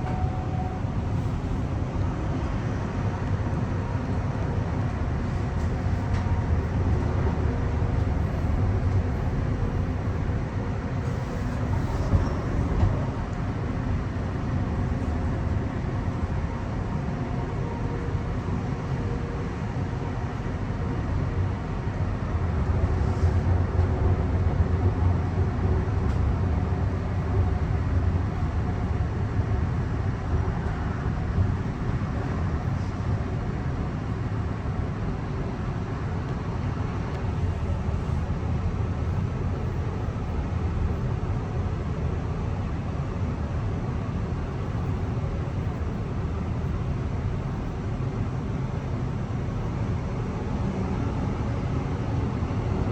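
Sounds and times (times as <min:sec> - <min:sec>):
wheels rumbling on rail: 0:00.0 - 0:52.9.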